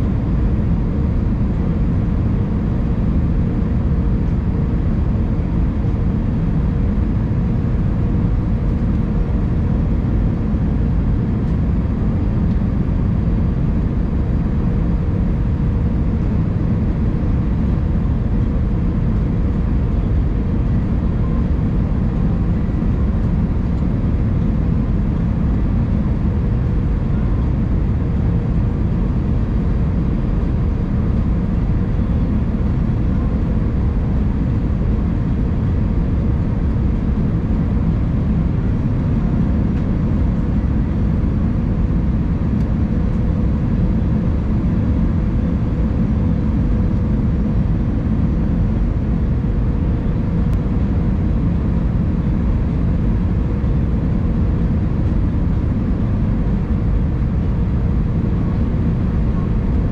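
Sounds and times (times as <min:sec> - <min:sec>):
aircraft cabin rumble: 0:00.0 - 0:59.9
faint steady hum: 0:00.0 - 0:59.9.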